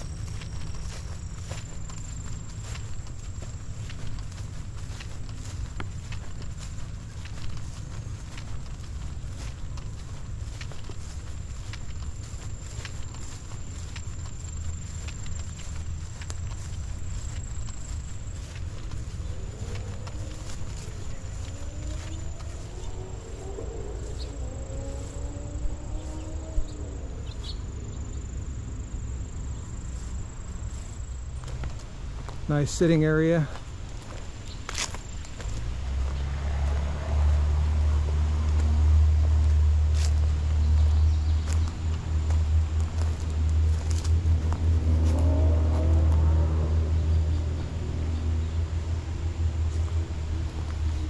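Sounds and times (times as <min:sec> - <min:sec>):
low rumble: 0:00.0 - 0:32.5, 0:33.5 - 0:51.0
insects trilling: 0:00.0 - 0:51.0
vehicle engine passing: 0:00.0 - 0:51.0.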